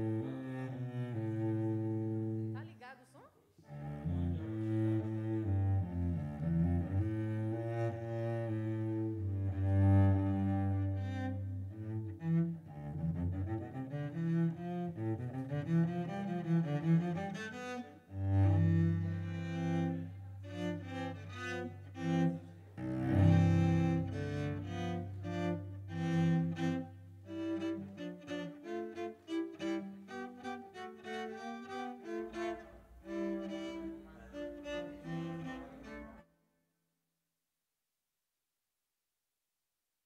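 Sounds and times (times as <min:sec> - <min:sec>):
bowed cello: 0:00.0 - 0:02.8, 0:03.6 - 0:36.3.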